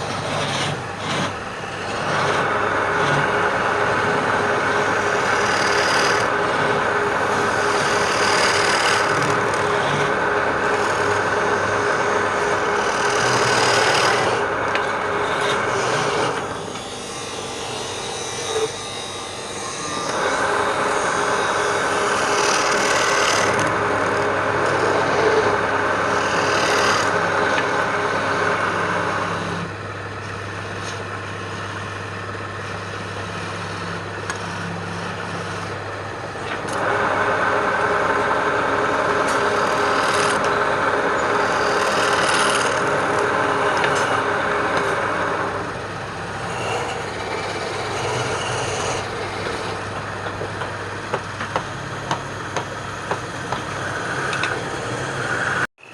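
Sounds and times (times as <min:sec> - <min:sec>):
power tool working wood: 0:00.0 - 0:55.9.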